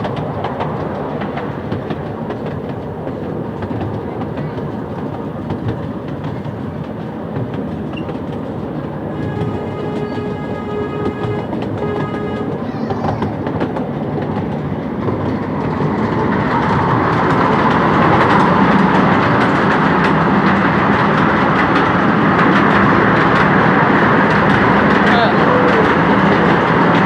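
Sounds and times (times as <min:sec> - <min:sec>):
train rolling noise: 0:00.0 - 0:27.0
train wheels clicking on rail joints: 0:00.0 - 0:27.0.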